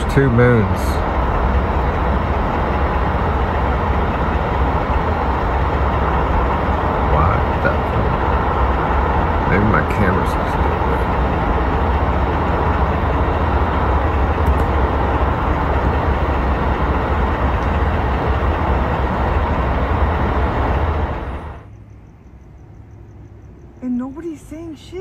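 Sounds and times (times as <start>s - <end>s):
loud rumbling noise: 0.0s - 21.7s.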